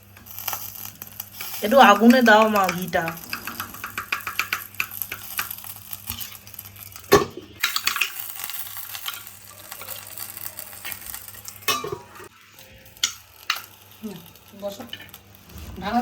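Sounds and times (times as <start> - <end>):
ghee sizzling on hot charcoal: 0.0 - 16.0.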